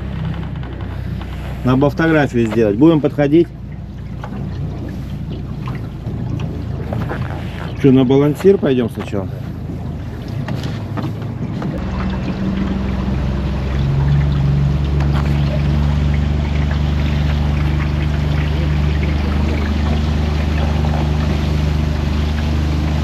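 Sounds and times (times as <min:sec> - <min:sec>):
outboard motor running: 0:00.0 - 0:23.0
water rushing past hull: 0:00.0 - 0:23.0.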